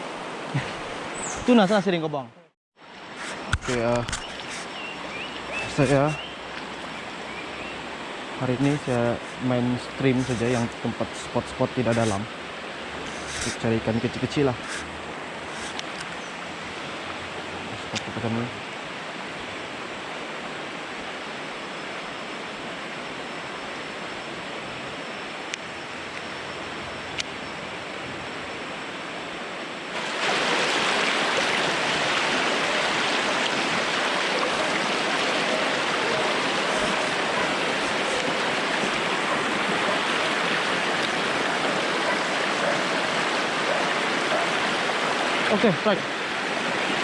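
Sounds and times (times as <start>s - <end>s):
shallow stream rushing: 0.0s - 2.0s, 2.8s - 47.0s.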